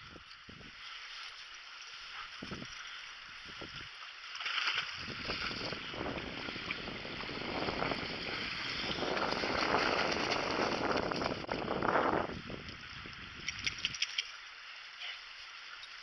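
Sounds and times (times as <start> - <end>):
water splashing in a creek: 0.0 - 16.0.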